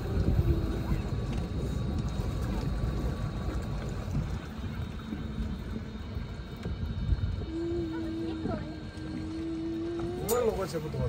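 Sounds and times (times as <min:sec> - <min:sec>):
low engine rumble: 0:00.0 - 0:11.0
water rushing along boat hull: 0:00.0 - 0:11.0.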